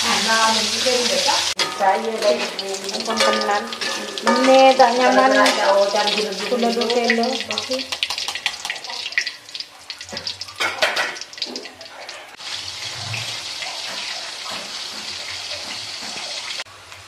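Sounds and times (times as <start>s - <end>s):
oil crackling and sizzling: 0.0s - 17.0s.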